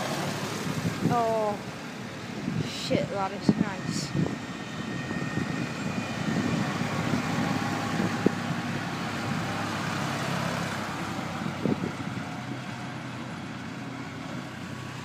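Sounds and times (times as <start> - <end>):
tractor engine driving past: 0.0 - 15.0.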